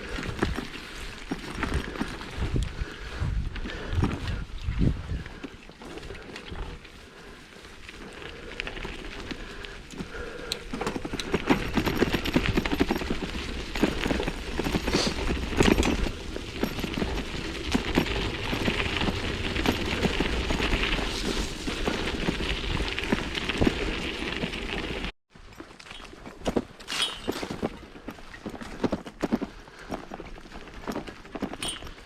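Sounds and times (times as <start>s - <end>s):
mountain bike rattling: 0.0s - 32.0s
tyres crunching over dirt trail: 0.0s - 32.0s.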